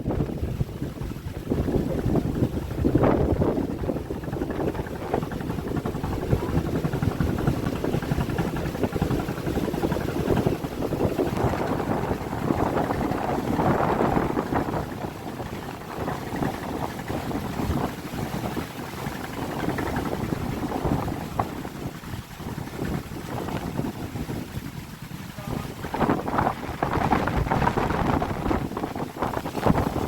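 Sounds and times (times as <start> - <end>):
choppy river water: 0.0 - 30.0
gusting wind on microphone: 0.0 - 30.0.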